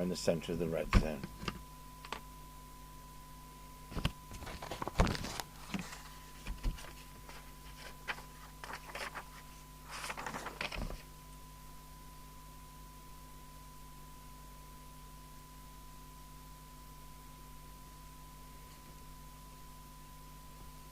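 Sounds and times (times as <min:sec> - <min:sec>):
faint steady high tone: 0:00.0 - 0:04.4, 0:05.5 - 0:20.9
low mains hum: 0:00.0 - 0:20.9.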